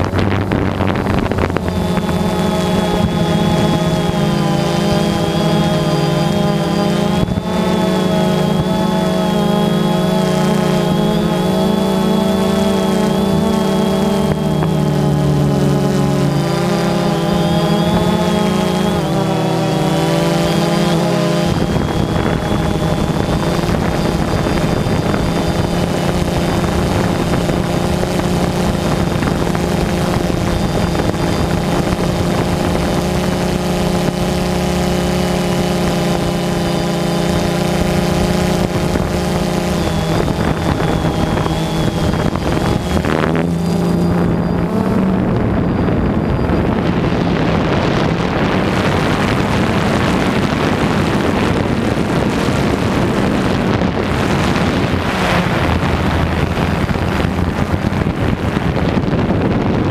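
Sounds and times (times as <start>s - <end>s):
drone propellers buzzing: 0.0s - 59.9s
wind on microphone: 0.0s - 59.9s.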